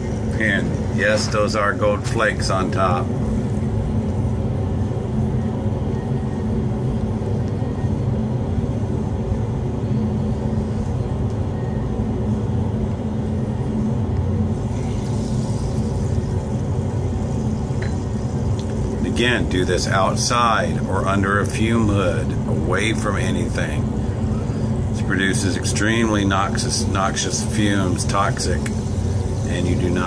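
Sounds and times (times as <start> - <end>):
exhaust fan humming: 0.0 - 30.0.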